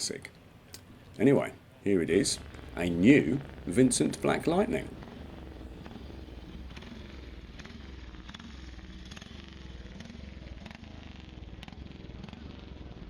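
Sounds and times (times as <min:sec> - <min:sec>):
faint motorcycle engine running: 0:00.9 - 0:13.0.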